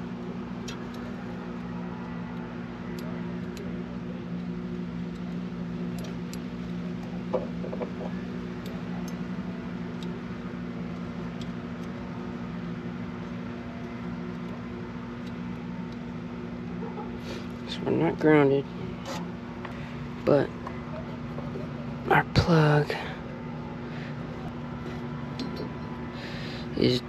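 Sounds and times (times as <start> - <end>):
mechanical hum of equipment: 0.0 - 27.0.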